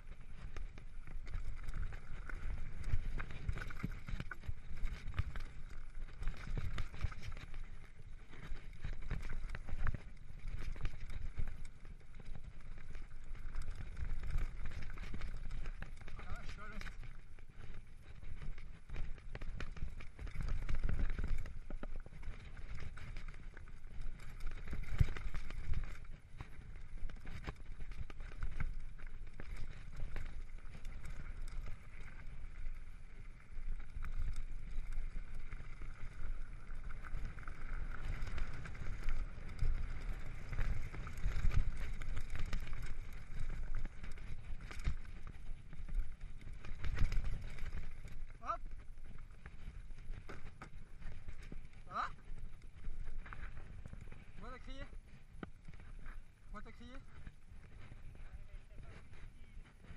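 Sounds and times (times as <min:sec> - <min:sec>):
bike rattling and knocking: 0:00.0 - 0:58.0
wind and tyres rumbling: 0:00.0 - 0:59.9.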